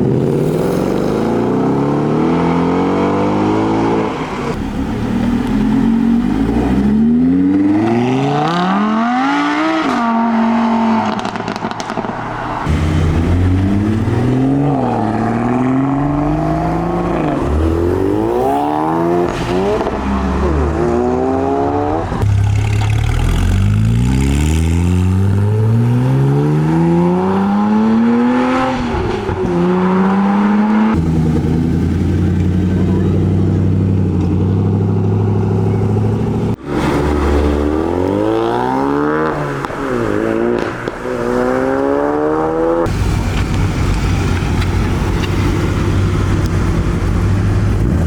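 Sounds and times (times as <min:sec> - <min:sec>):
sports car engines accelerating: 0:00.0 - 0:48.0.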